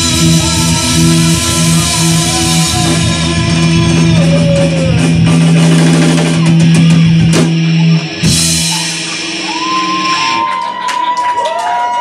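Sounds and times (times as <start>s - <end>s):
live rock band playing: 0.0s - 11.4s.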